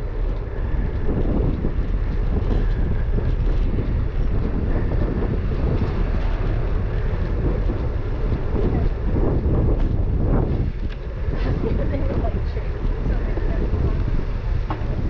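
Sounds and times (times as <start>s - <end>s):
bicycle ride rumble on street: 0.0s - 15.0s
wind on microphone: 0.0s - 15.0s.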